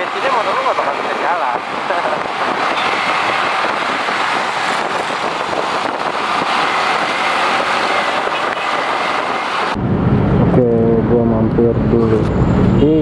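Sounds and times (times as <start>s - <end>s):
motorcycle engine: 0.0s - 13.0s
road traffic: 0.0s - 13.0s
wind rushing over microphone: 0.0s - 13.0s.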